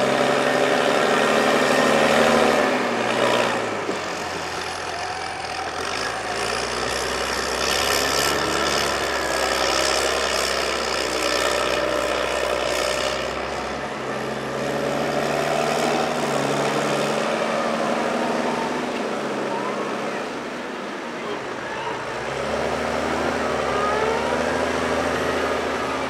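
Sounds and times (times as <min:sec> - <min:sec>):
tractor diesel engine rumbling: 0:00.0 - 0:26.0.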